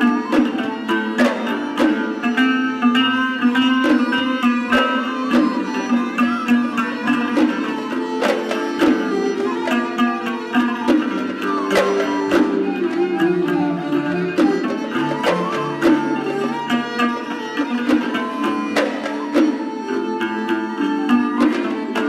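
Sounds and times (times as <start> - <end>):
hand drum strokes: 0.0 - 22.0
plucked strings: 0.0 - 22.0.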